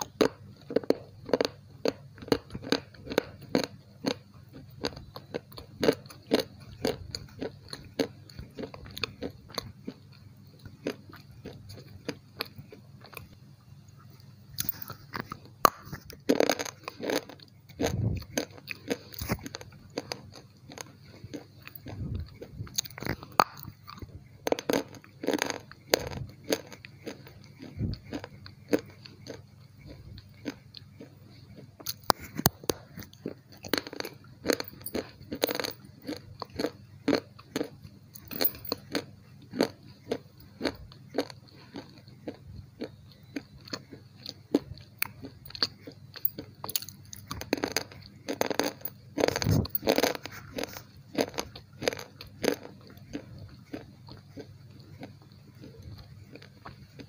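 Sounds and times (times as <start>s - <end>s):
chewing crunchy food: 0.0s - 57.0s.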